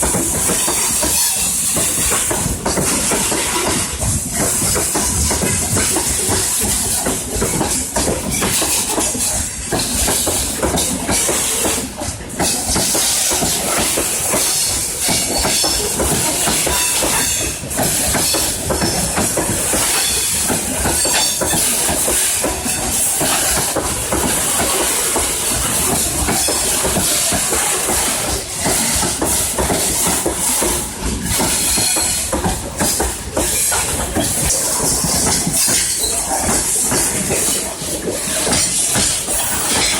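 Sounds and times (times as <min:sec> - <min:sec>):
freight train rolling past: 0:00.0 - 0:39.9
steel wheels knocking on rails: 0:00.0 - 0:39.9.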